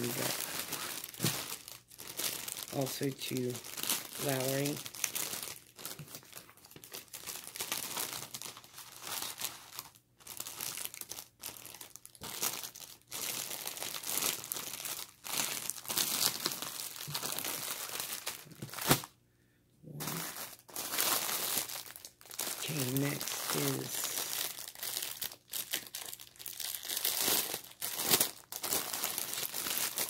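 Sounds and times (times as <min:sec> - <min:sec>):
plastic bags crinkling: 0:00.0 - 0:19.1, 0:19.9 - 0:30.0.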